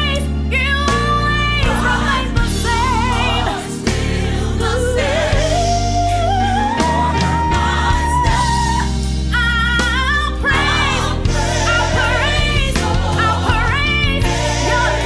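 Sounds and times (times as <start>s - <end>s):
gospel singing with accompaniment: 0.0s - 15.0s.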